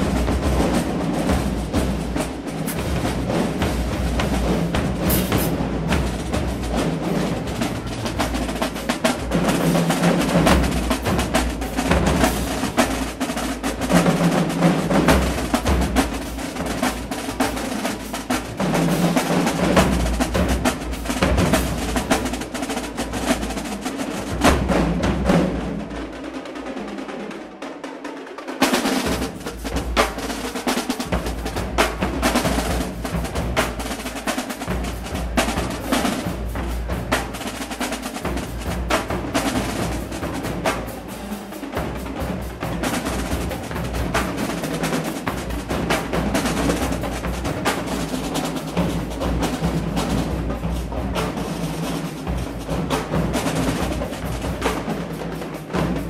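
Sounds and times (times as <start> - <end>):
marching bass drums: 0.0 - 27.7, 28.5 - 56.0
snare drums playing fast cadence: 0.0 - 56.0.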